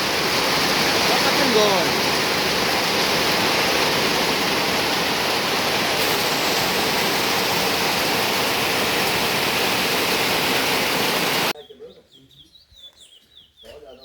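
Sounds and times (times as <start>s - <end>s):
heavy rain on a metal roof: 0.0s - 11.5s.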